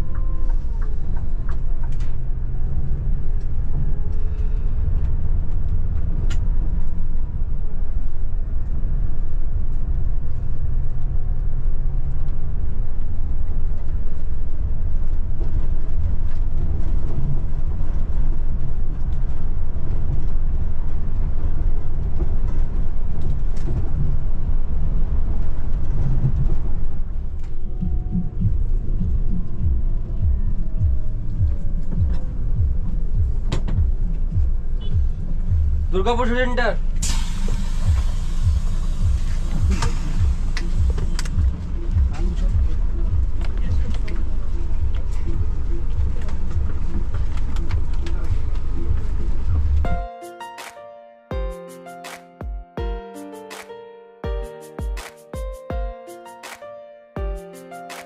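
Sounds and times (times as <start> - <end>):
coach engine and road rumble: 0.0 - 55.4.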